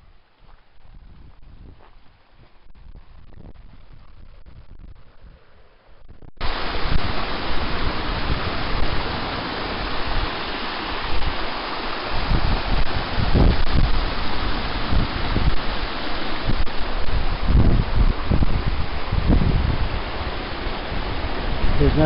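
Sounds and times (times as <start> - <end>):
wind blowing on microphone: 0.0 - 22.0.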